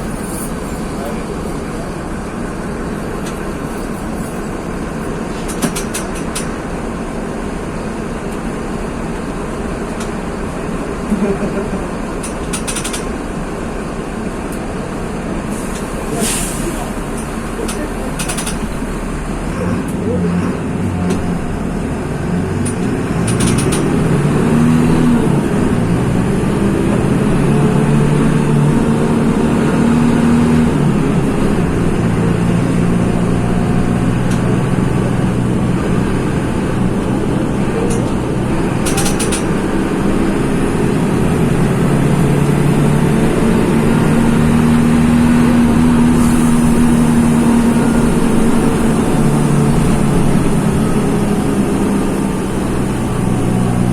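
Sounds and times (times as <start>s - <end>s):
bus diesel engine running: 0.0s - 53.9s.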